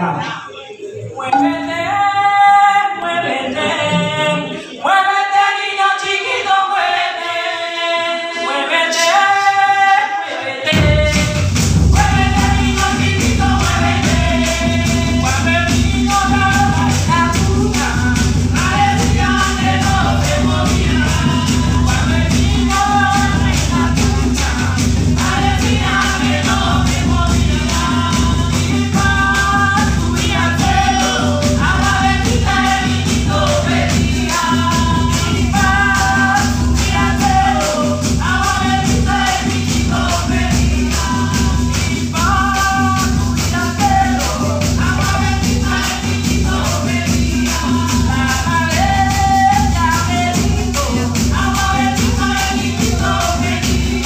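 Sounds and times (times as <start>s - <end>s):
marimba ensemble: 0.0s - 5.0s, 10.7s - 54.0s
voices singing unaccompanied: 0.0s - 54.0s
heavy drumming: 10.7s - 54.0s.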